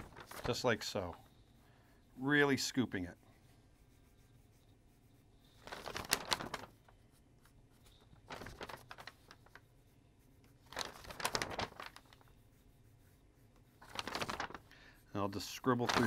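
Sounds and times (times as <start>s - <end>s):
pencil scratching on paper: 0.0s - 15.9s.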